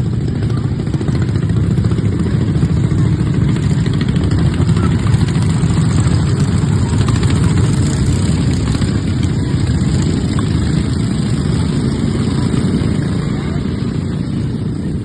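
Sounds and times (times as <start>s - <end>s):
riding lawnmower engines running: 0.0s - 15.0s.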